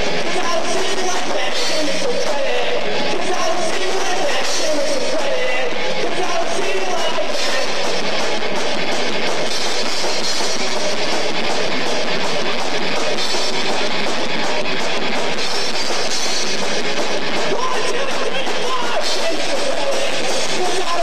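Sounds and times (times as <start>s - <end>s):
bass guitar: 0.0s - 21.0s
drum kit: 0.0s - 21.0s
electric guitars: 0.0s - 21.0s.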